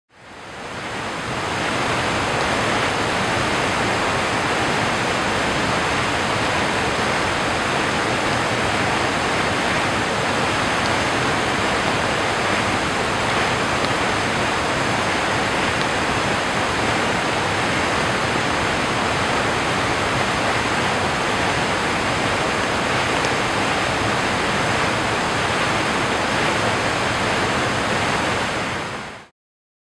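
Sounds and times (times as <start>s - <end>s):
stream water rushing: 0.2s - 29.3s.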